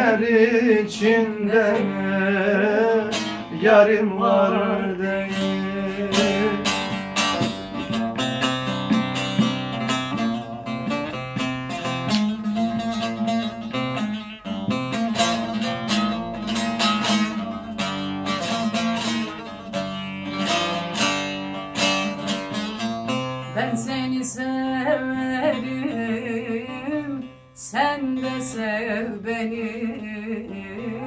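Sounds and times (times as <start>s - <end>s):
long-necked lute picking and strumming: 0.0s - 31.0s.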